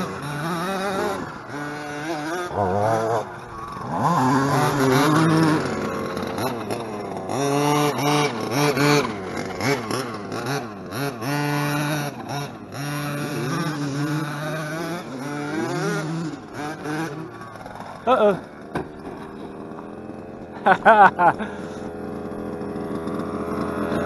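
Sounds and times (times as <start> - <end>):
rc truck engine revving: 0.0 - 24.0.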